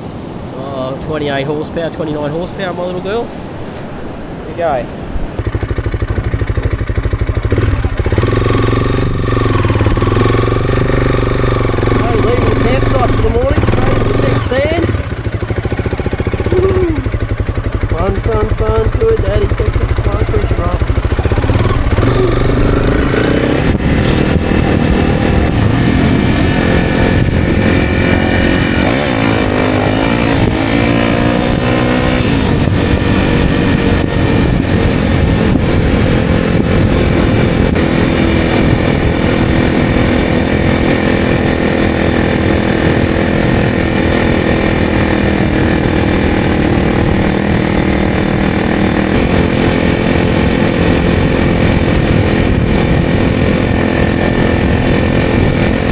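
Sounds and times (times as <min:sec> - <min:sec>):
motorcycle engine revving: 0:05.3 - 0:55.9.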